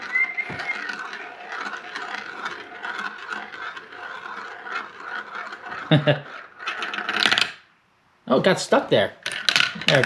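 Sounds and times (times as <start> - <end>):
marble rolling on plastic track: 0.0 - 7.7, 8.5 - 10.0.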